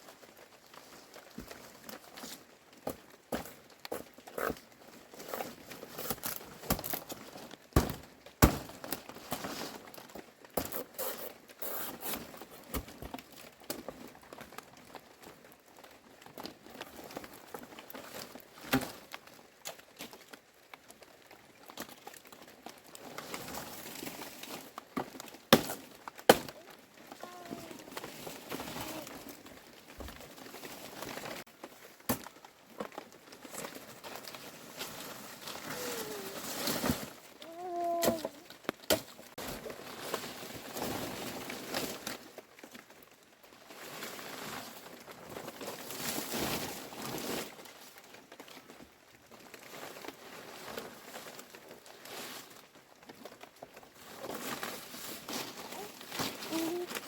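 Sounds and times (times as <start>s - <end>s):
materials rustling and crinkling: 0.0s - 57.0s.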